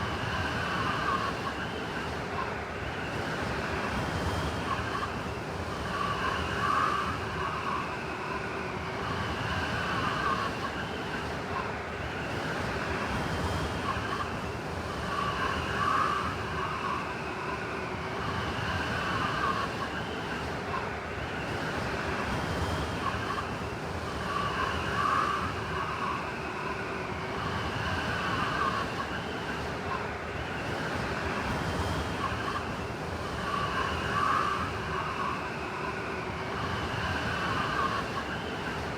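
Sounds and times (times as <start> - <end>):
blizzard wind howling: 0.0 - 11.3, 11.9 - 38.9
high whistling wind tones: 0.0 - 38.9.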